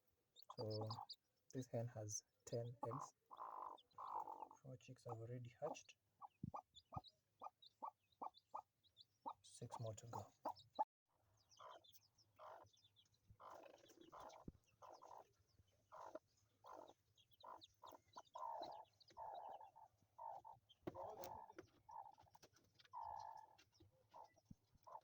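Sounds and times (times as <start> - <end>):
chicks peeping: 0.4 - 25.0
hen clucking quietly: 0.5 - 1.2, 2.5 - 10.8, 13.4 - 15.3, 15.9 - 25.0.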